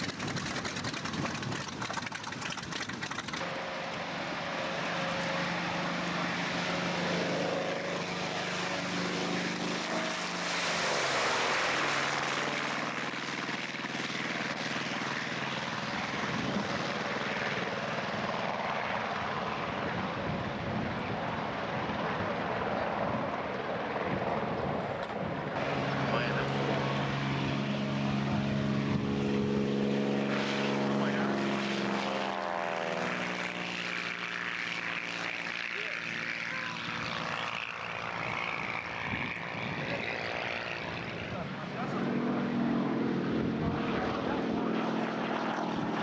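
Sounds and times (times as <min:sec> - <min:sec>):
propeller aircraft passing: 0:00.0 - 0:46.0.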